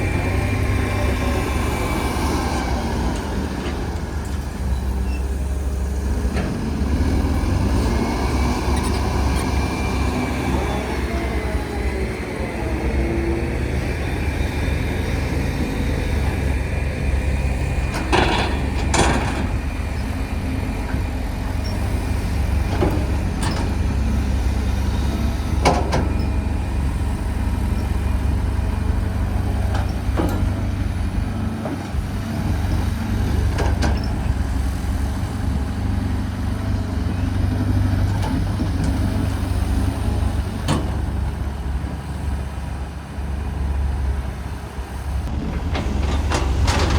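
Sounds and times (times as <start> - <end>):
excavator diesel engines rumbling: 0.0 - 46.9.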